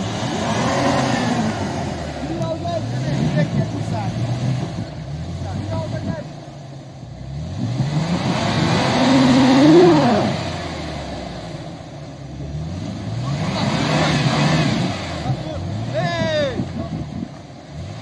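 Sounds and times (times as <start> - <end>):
engine revving hard: 0.0 - 6.4, 7.1 - 18.0.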